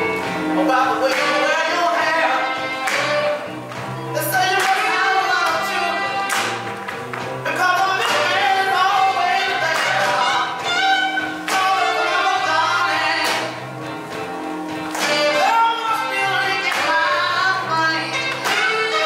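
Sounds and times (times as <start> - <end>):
blues song with singer: 0.0 - 19.0.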